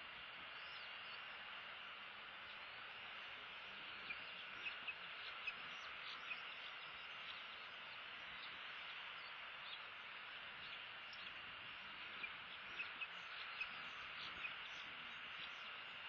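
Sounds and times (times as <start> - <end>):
faint steady hiss: 0.0 - 16.0
faint bird chirps: 0.1 - 1.7, 2.3 - 16.0.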